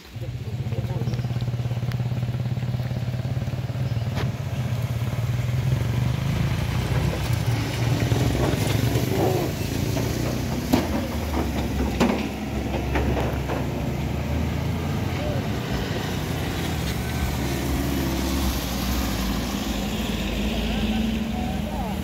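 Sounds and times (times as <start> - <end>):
vehicle engine running at low revs: 0.1 - 22.0.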